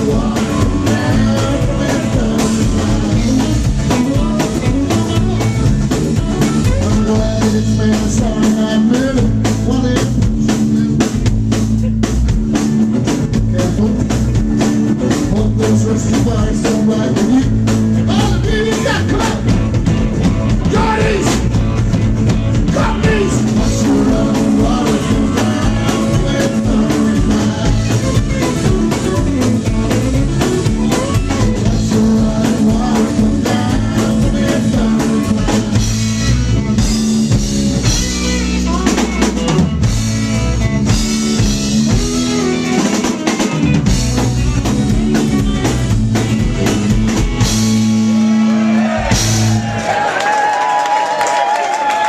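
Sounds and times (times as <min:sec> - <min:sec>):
drum kit: 0:00.0 - 0:52.0
rock band playing: 0:00.0 - 0:52.0.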